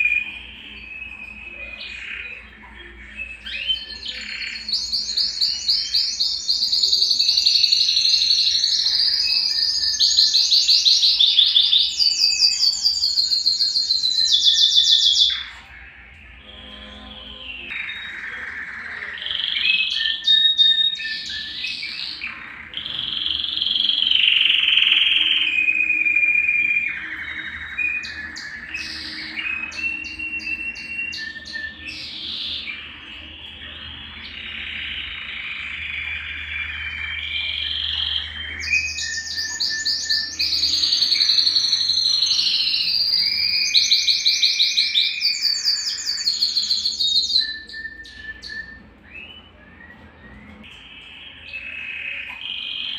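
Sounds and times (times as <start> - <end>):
canary singing: 0.0 - 52.9.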